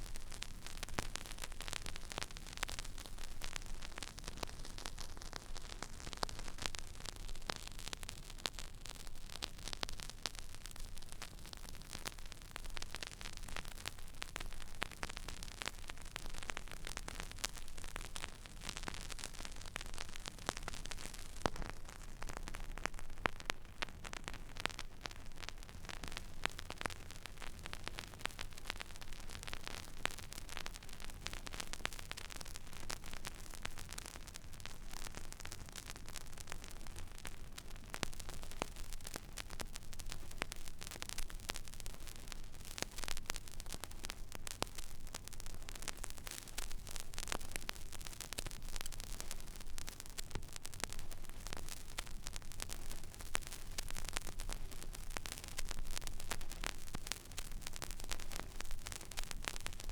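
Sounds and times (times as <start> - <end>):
vinyl surface hiss and crackles: 0.0 - 59.9.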